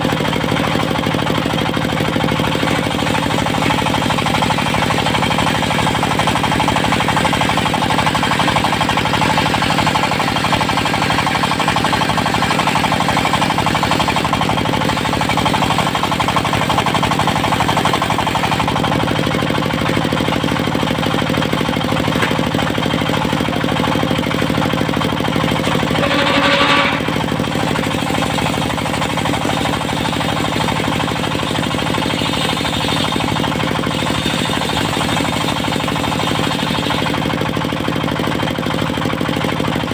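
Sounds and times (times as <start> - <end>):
sawmill engine knocking clatter: 0.0 - 39.9.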